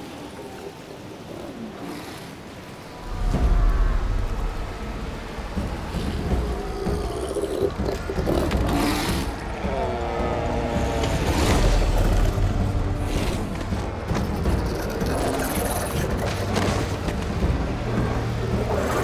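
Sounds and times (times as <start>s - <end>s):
seals growling and roaring: 0.0s - 19.0s.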